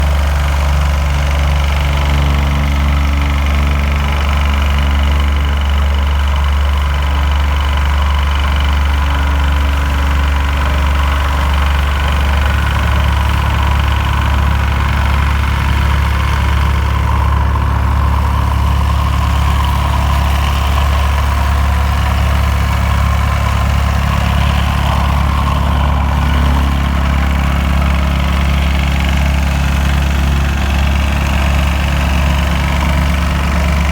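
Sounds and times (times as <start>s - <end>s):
large engine humming: 0.0s - 33.9s.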